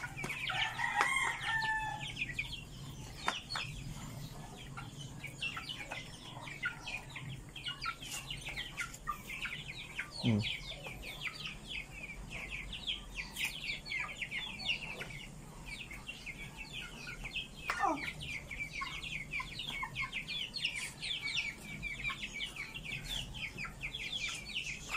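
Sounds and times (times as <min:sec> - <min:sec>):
chickens chirping and peeping: 0:00.0 - 0:24.9.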